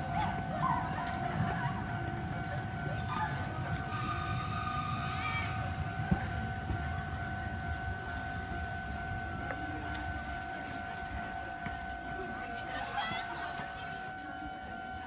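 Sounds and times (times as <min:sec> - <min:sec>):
electric train rumbling: 0:00.0 - 0:15.0
high ringing tone: 0:00.0 - 0:15.0.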